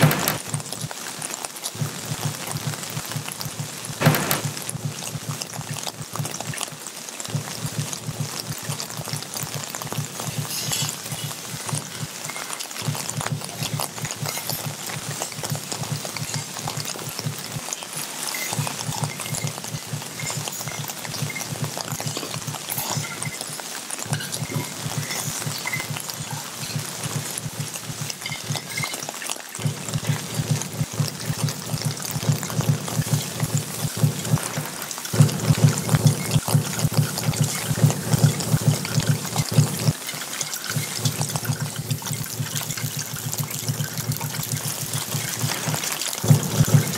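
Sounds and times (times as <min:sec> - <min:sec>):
rain and water splashing: 0:00.0 - 0:46.9.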